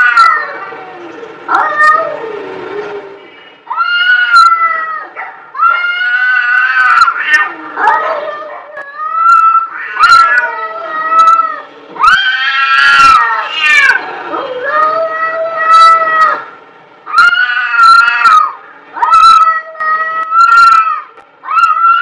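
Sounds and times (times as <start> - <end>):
cats yowling: 0.0 - 22.0.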